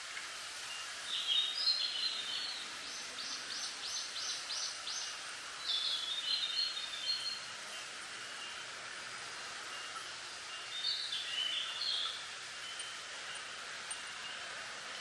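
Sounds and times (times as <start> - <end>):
wind through bamboo leaves: 0.0 - 15.0.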